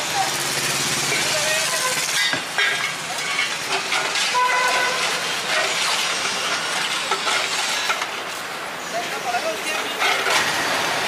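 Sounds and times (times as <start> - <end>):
roadside traffic noise: 0.0 - 11.0.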